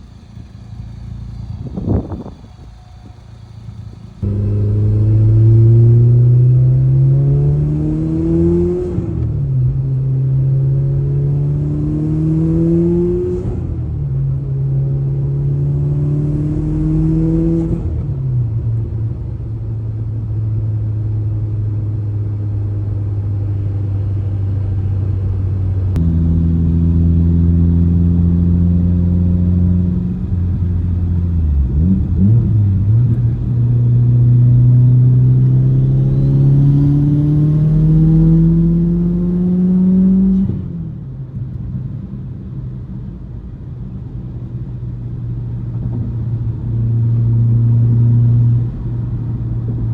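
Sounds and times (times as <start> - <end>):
turbocharged car engine accelerating: 0.0 - 18.9, 25.0 - 49.9.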